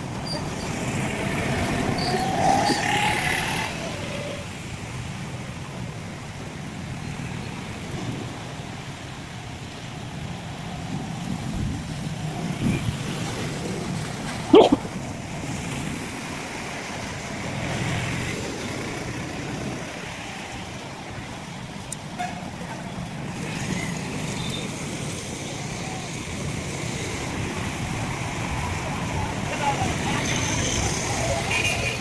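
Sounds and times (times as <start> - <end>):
heavy rain: 0.0 - 32.0
vehicles passing on wet roads: 0.0 - 32.0.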